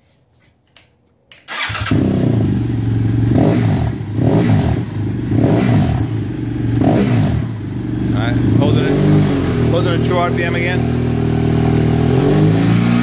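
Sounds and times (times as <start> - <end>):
motorcycle engine starting and idling: 1.5 - 12.2.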